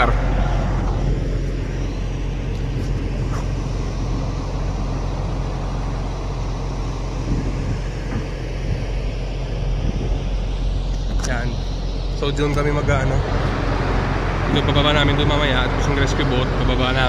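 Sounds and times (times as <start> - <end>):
ship machinery hum and rumble: 0.0 - 17.0.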